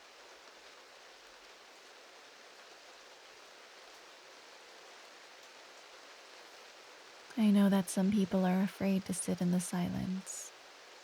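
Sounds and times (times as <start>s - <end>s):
faint steady rain: 0.0s - 11.0s.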